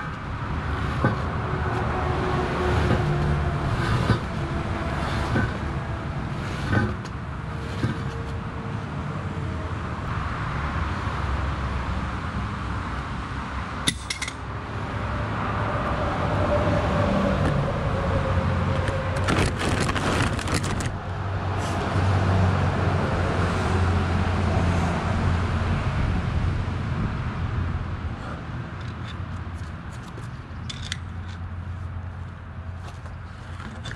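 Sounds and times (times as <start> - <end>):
road traffic rumble: 0.0 - 33.9.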